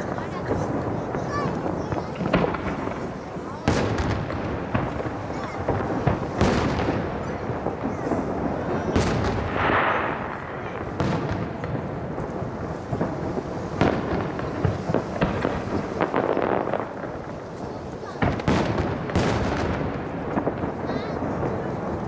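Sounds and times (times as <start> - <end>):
firework shells booming: 0.0 - 22.0.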